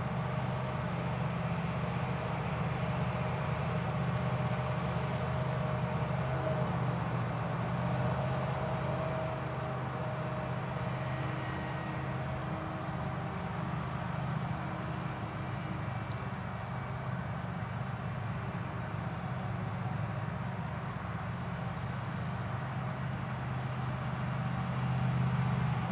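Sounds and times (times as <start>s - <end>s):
tractor hauling trailer: 0.0s - 25.9s.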